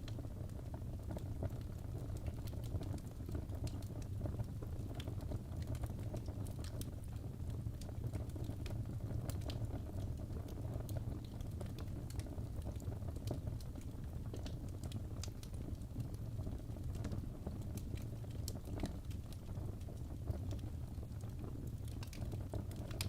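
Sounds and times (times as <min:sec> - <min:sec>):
burning logs crackling: 0:00.0 - 0:23.0
low rumble of flames: 0:00.0 - 0:23.0.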